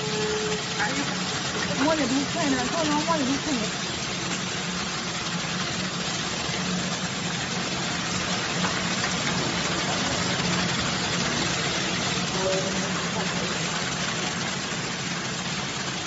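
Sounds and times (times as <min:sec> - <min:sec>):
processing machine humming: 0:00.0 - 0:16.0.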